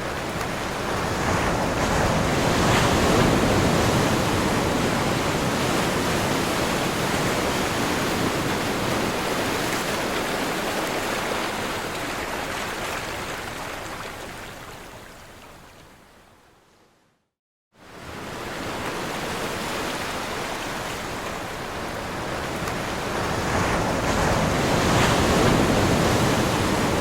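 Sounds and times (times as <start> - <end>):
ocean waves crashing: 0.0 - 14.8, 17.8 - 27.0.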